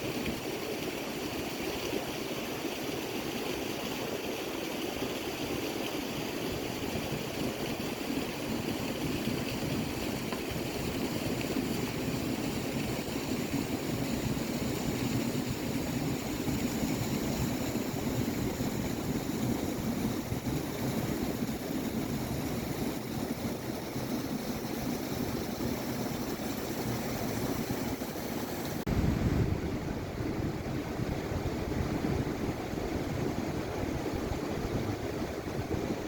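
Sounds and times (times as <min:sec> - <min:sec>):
rushing river water: 0:00.0 - 0:36.0.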